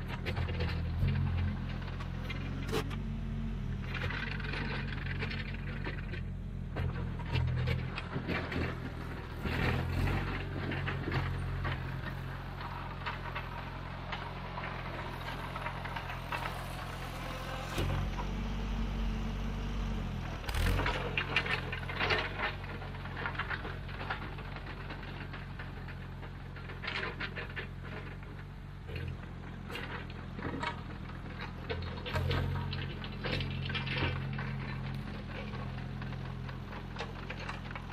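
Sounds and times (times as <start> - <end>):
heavy machine engine running: 0.0 - 37.9
soil and rock scraping: 0.0 - 37.9.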